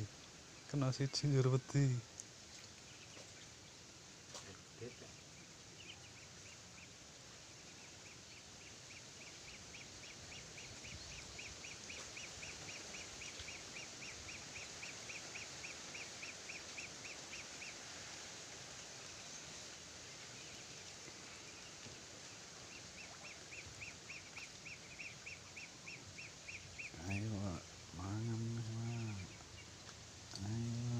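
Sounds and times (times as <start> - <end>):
steady outdoor hiss: 0.0 - 30.9.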